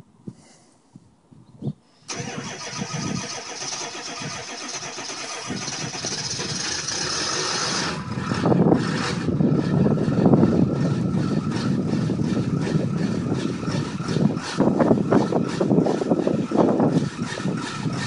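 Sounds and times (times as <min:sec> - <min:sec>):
pickup engine starting and running: 0:02.1 - 0:18.0.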